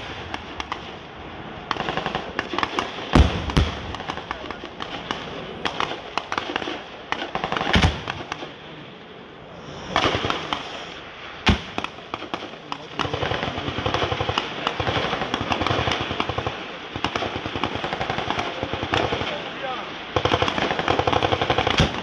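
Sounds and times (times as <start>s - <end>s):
rapid small-arms shots: 0.0s - 1.0s, 1.7s - 8.6s, 10.0s - 22.0s.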